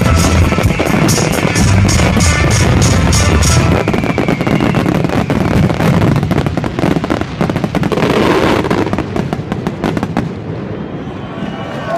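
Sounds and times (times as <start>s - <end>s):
fireworks bursting and crackling: 0.0s - 11.8s.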